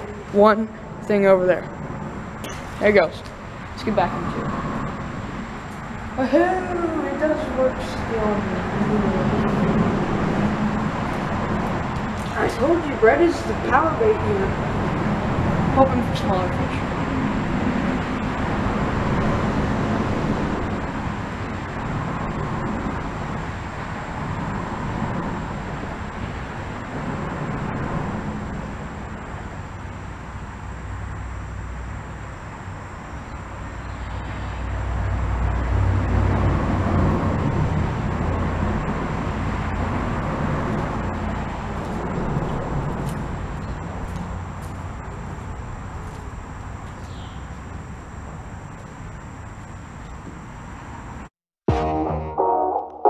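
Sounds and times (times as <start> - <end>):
passing road traffic: 0.0 - 51.3.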